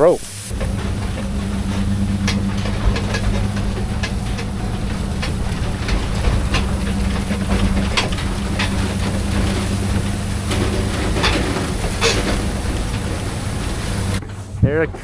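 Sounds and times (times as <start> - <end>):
vehicle engine humming: 0.2 - 15.0
metallic rattles and clanks: 0.5 - 15.0.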